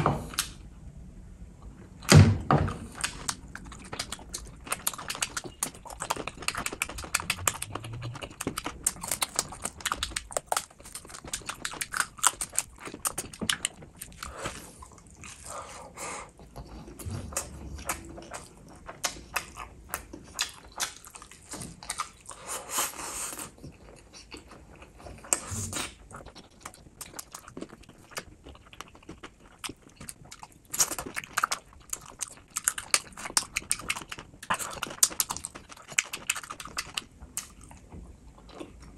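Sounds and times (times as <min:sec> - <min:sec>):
open-mouthed chewing and lip-smacking: 0:02.7 - 0:38.9.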